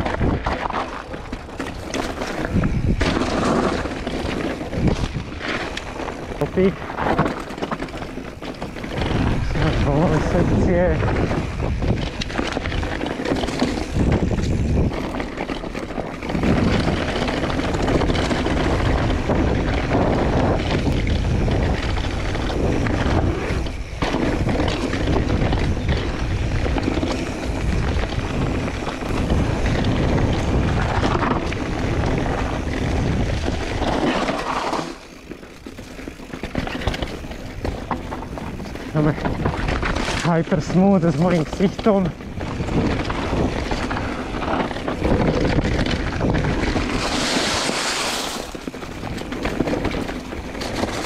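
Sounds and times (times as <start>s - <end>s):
wind on microphone: 0.0s - 35.0s, 36.6s - 51.0s
bike rattling over bumps: 0.0s - 51.0s
tyres rolling over roots and stones: 0.0s - 51.0s.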